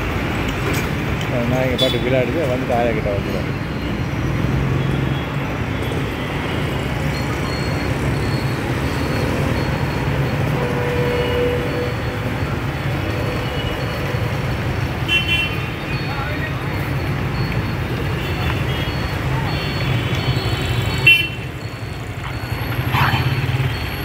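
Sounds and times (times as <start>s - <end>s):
road traffic drone: 0.0s - 24.0s.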